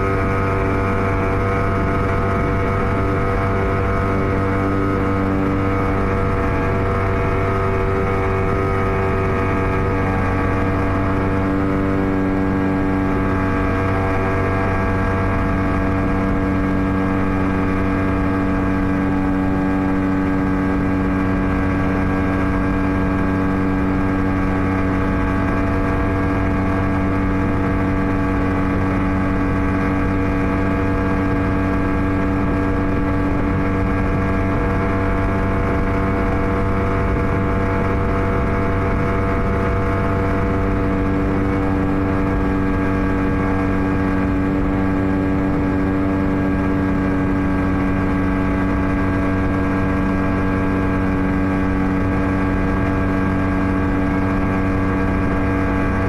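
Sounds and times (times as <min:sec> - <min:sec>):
outboard motor at high speed: 0:00.0 - 0:56.0
wind and water rushing: 0:00.0 - 0:56.0.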